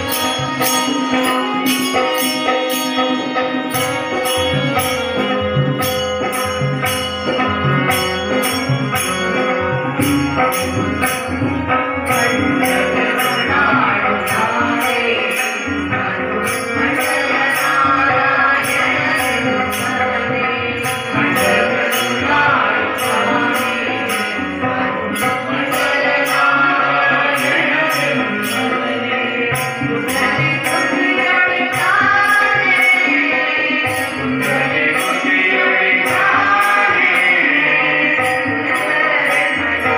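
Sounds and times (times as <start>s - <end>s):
electronic keyboard sustained notes: 0.0s - 39.9s
group singing into microphones: 0.0s - 39.9s
jingling beat: 0.0s - 39.9s.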